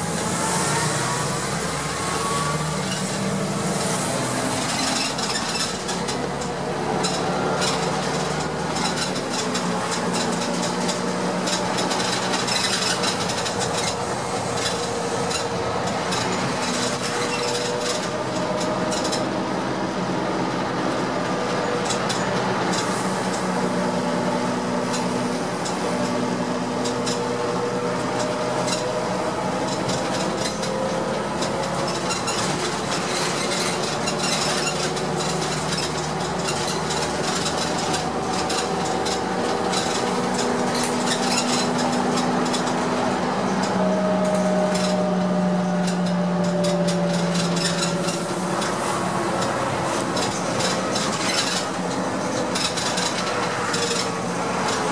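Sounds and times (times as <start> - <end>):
bus body rattles: 0.0 - 54.9
bus engine rumble: 0.0 - 54.9.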